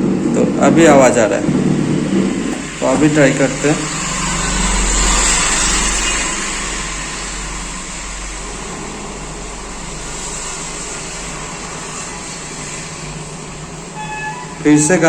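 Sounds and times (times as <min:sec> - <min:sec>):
speaker hissing noise: 0:00.1 - 0:15.0.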